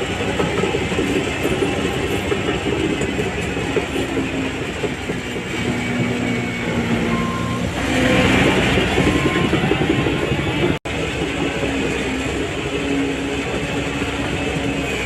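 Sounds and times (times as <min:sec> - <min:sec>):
bulldozer diesel engine: 0:00.0 - 0:15.0
rattle of machinery and tracks: 0:00.0 - 0:15.0.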